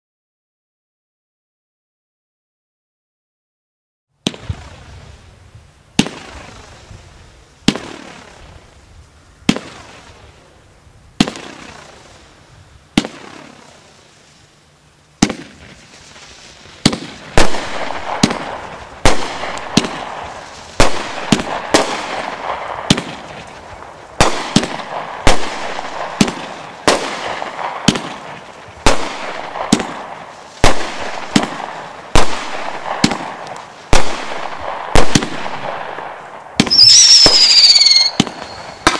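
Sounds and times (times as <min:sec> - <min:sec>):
fireworks launch reports: 0:04.2 - 0:14.4, 0:15.2 - 0:38.9
fireworks crackling: 0:04.2 - 0:38.9.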